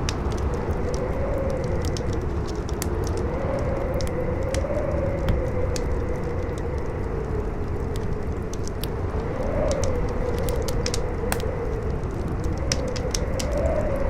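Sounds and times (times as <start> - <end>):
campfire crackling and popping: 0.0 - 14.0
strong wind howling: 0.0 - 14.0.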